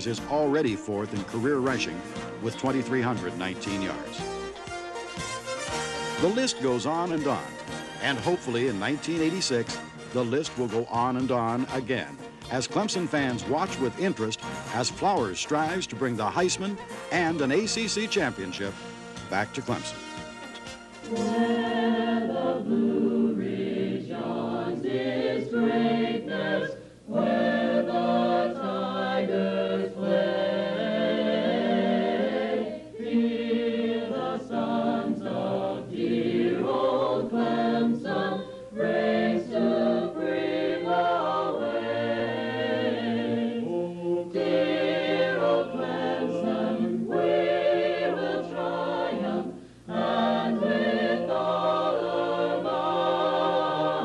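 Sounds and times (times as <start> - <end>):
choir singing held notes: 0.0 - 54.0.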